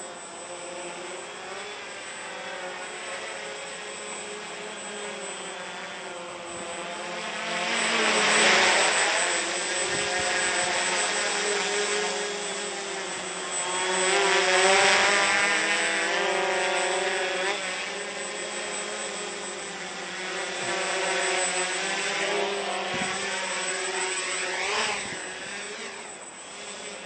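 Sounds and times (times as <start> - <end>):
quadcopter motors whirring: 0.0 - 27.0.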